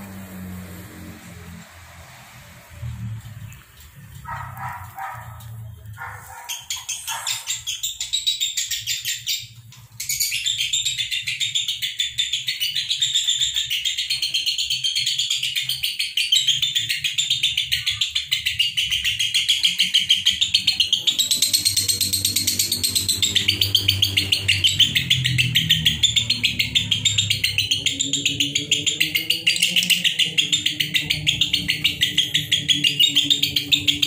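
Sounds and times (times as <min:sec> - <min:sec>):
lovebirds chirping shrilly: 0:03.4 - 0:17.1, 0:18.6 - 0:34.0.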